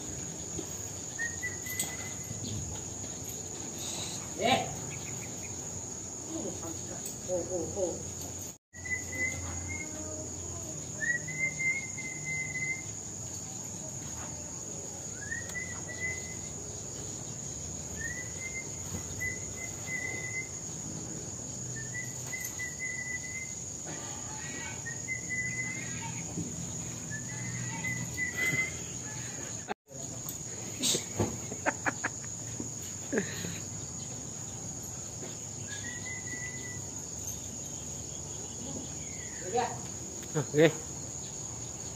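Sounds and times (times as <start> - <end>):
insect chorus: 0.0 - 41.9.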